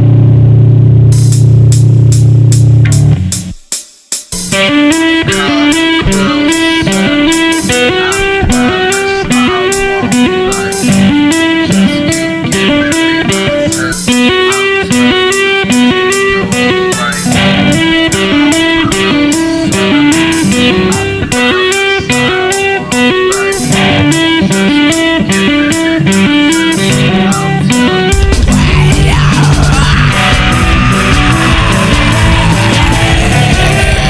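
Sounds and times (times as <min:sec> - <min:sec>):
electric guitar riff: 0:00.0 - 0:03.6, 0:04.4 - 0:34.0
steady drum beat: 0:01.1 - 0:34.0.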